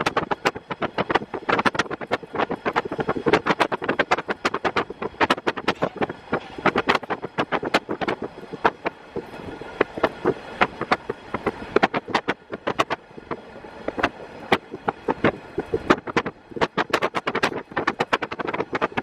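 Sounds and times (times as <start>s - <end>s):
train running noise: 0.0s - 19.0s
wheels clicking and clattering: 0.0s - 19.0s.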